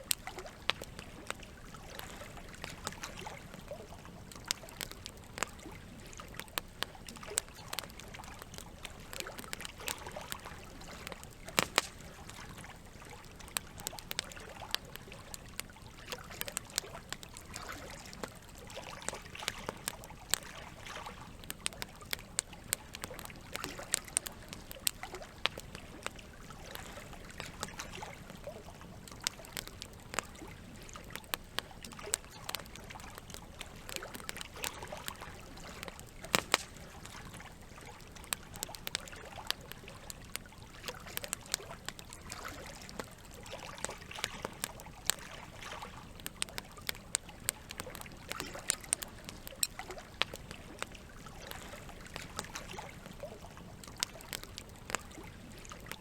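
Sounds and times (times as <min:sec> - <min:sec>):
campfire crackling and popping: 0:00.0 - 0:56.0
water trickling: 0:00.0 - 0:56.0.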